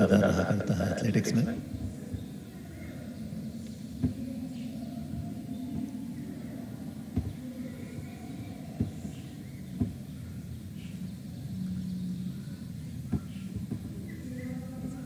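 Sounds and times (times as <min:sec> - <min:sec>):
stadium ambience rumble: 0:00.0 - 0:15.0.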